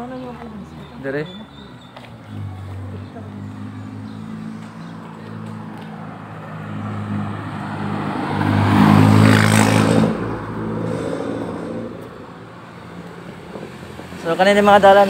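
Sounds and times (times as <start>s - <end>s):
car driving past: 2.2s - 14.2s.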